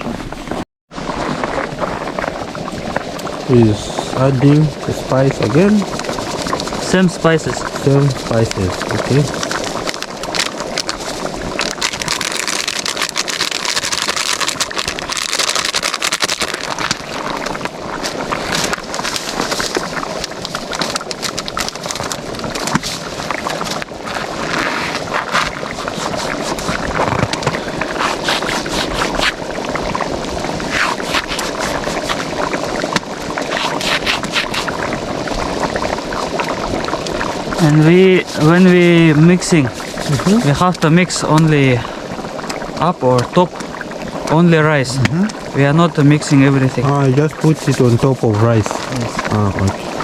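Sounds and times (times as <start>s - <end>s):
fire clicks and crackles: 0.0s - 50.0s
food bubbling and sizzling in pan: 0.0s - 50.0s.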